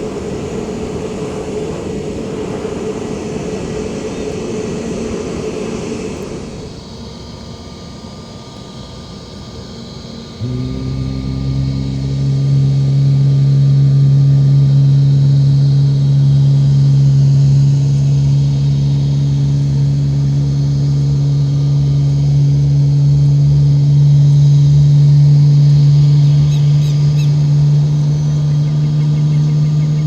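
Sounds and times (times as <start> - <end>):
aircraft engine running: 0.0 - 30.0.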